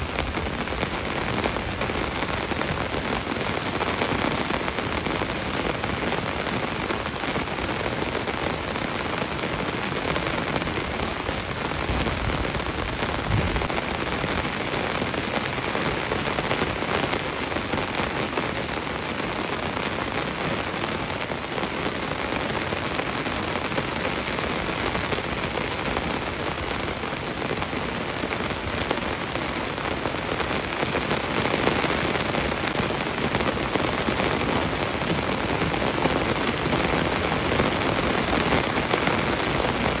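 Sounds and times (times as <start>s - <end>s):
heavy rain on leaves: 0.0s - 40.0s.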